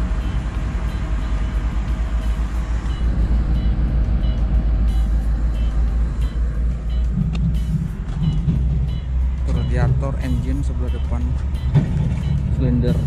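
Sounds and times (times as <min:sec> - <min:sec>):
diesel engine rumbling: 0:00.0 - 0:13.0
reversing alarm beeps: 0:00.2 - 0:01.5, 0:02.2 - 0:13.0.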